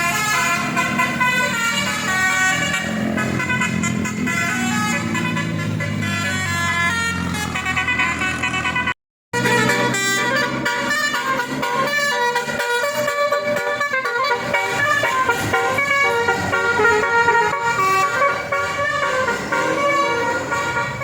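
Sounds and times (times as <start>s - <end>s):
multi-tone musical vehicle horn: 0.0s - 21.0s.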